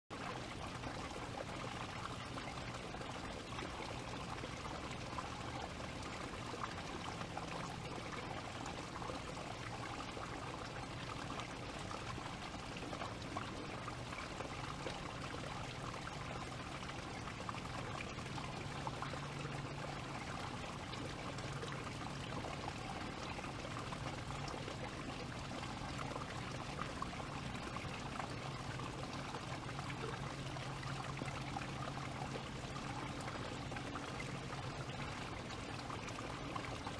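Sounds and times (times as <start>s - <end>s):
faint low hum: 0.1s - 36.9s.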